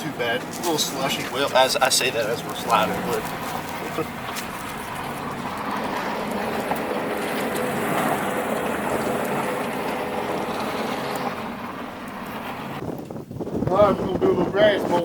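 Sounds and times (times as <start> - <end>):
tyres on slushy road: 0.0 - 12.8
low engine hum: 0.0 - 13.5.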